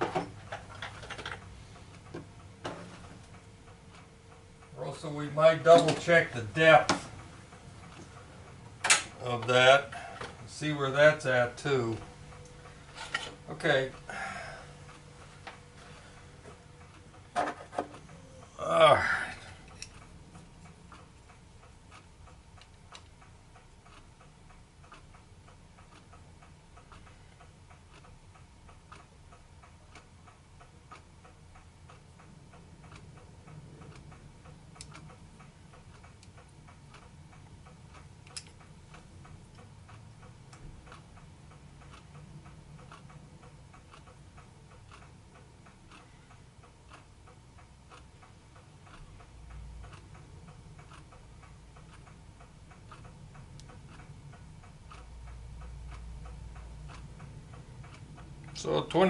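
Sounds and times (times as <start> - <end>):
low steady hum: 0.0 - 59.0
faint regular ticking: 0.4 - 59.0.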